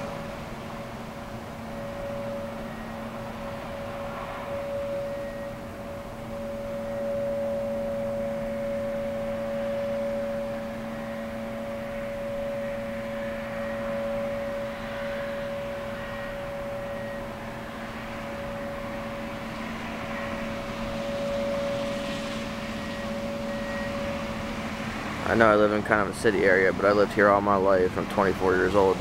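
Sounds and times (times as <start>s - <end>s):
faint background rush: 0.0s - 29.0s
two-pitch drone: 0.0s - 29.0s.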